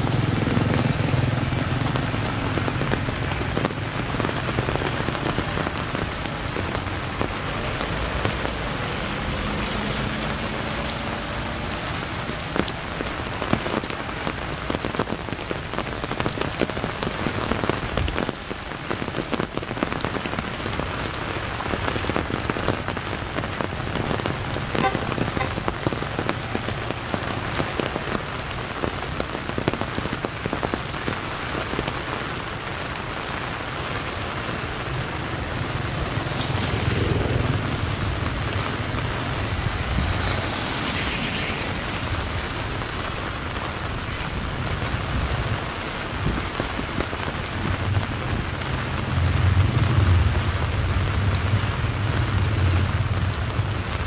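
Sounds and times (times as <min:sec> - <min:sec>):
rain drops pattering: 0:00.0 - 0:54.0.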